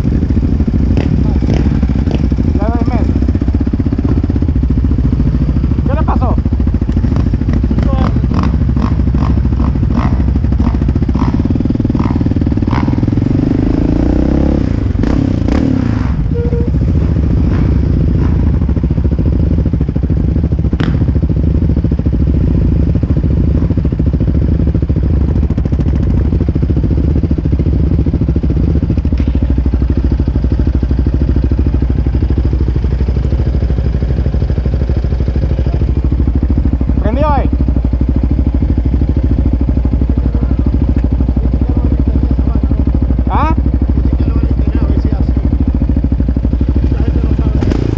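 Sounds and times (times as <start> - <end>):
atv engine idling: 0.0 - 47.9.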